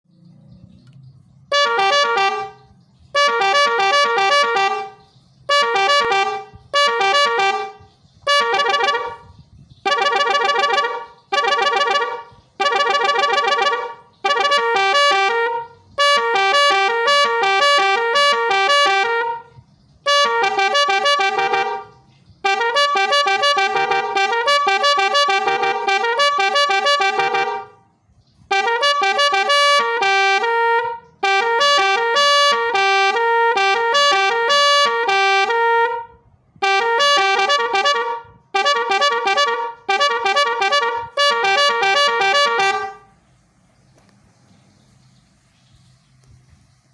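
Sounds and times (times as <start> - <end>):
melodic trumpet horn: 1.5 - 43.3.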